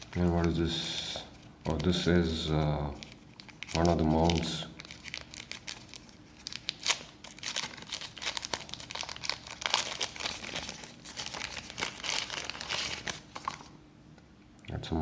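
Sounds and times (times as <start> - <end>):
packaging crinkling: 0.0 - 13.8.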